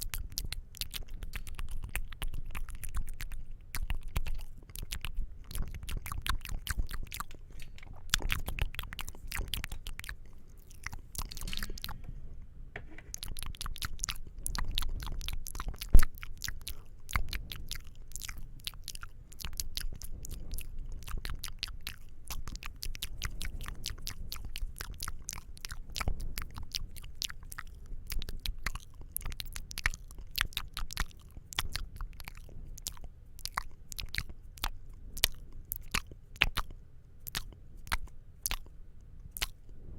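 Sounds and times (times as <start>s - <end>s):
wet mouth clicks and smacks: 0.0s - 12.1s, 13.0s - 39.7s.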